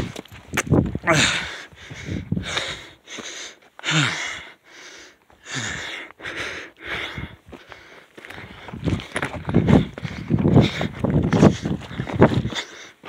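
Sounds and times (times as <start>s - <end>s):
man breathing hard: 1.0s - 13.0s.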